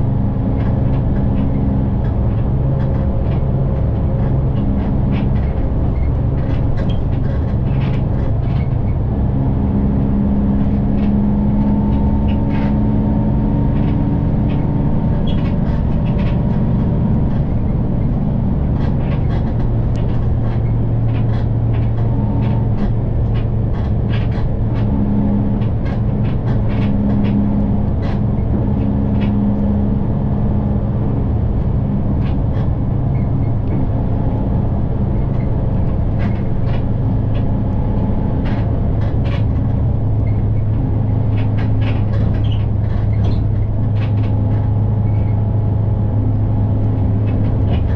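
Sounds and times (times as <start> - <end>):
bus engine and road rumble: 0.0 - 47.9
rattles and clicks from bus body: 0.0 - 47.9.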